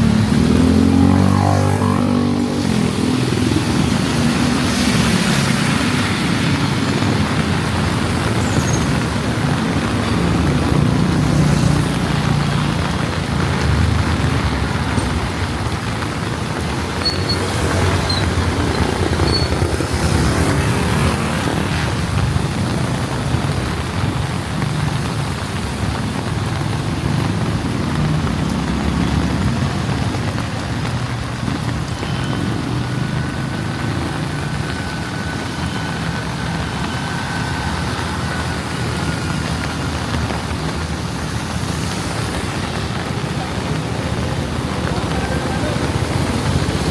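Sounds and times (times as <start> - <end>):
heavy rain on street: 0.0 - 46.9
traffic passing: 0.0 - 46.9
vehicle engine drone: 0.0 - 46.9.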